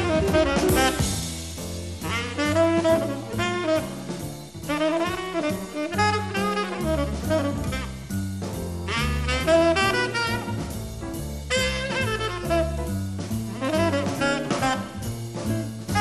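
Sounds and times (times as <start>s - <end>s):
bass line: 0.0s - 16.0s
rhythm section: 0.0s - 16.0s
saxophone lead line: 0.0s - 16.0s.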